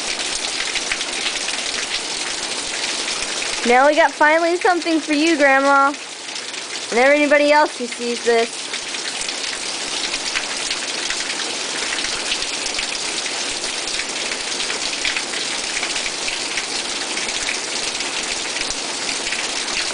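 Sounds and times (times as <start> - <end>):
hard rain pattering: 0.0 - 19.9.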